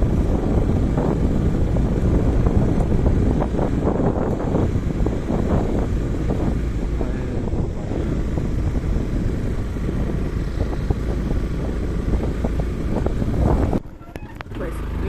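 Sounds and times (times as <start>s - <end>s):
motorcycle engine running: 0.0s - 15.0s
rumble and knocks of riding: 0.0s - 15.0s
wind buffeting microphone: 0.0s - 15.0s.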